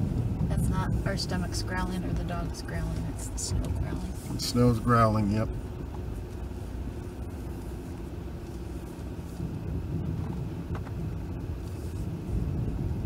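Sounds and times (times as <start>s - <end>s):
engine running low: 0.0s - 13.0s.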